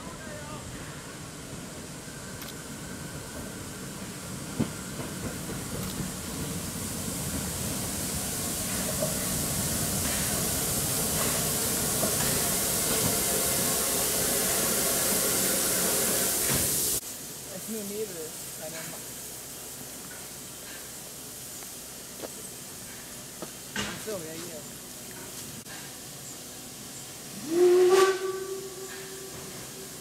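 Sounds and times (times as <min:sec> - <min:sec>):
steam locomotive hissing: 0:00.0 - 0:30.0.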